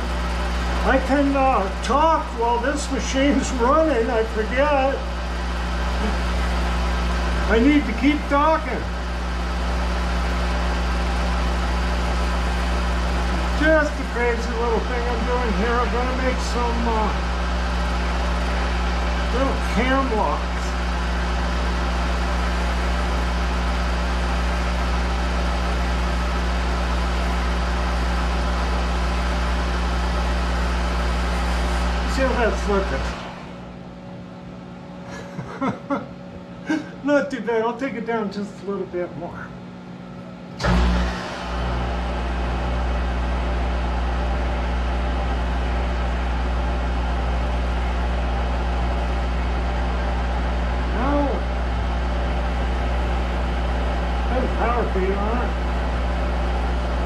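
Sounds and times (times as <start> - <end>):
lathe running with low hum: 0.0 - 57.0.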